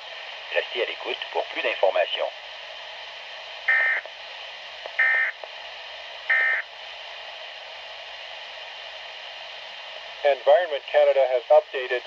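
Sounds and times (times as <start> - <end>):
radio hiss: 0.1 - 7.0, 8.0 - 12.0.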